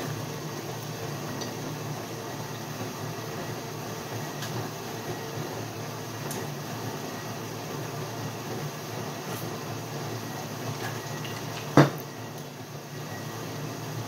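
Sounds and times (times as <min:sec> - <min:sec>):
dishwasher humming and hissing: 0:00.0 - 0:14.0.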